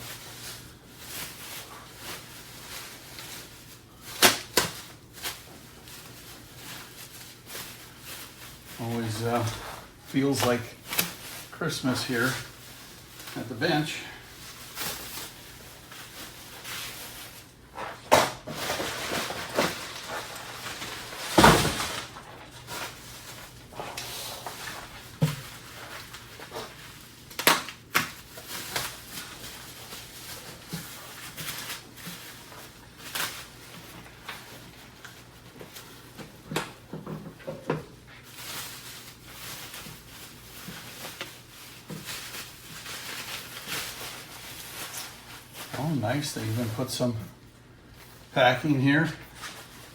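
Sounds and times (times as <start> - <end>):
packing material rustling: 0.0 - 49.9.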